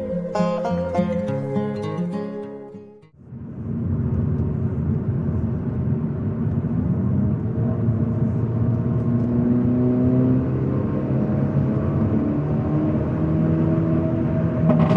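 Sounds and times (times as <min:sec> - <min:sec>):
car exhaust drone: 0:00.0 - 0:14.9.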